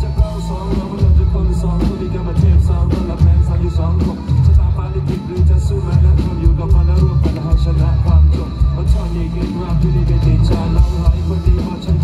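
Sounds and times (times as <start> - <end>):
bass guitar: 0.0 - 12.0
drums: 0.0 - 12.0
person singing: 0.0 - 12.0.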